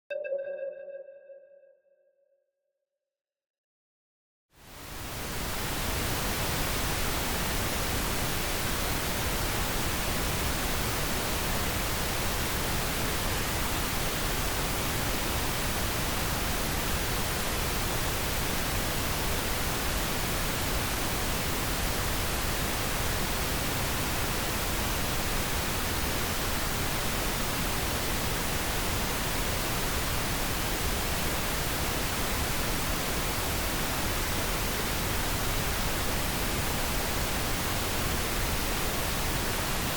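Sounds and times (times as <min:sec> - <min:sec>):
steady pink noise hiss: 0:04.6 - 0:39.9.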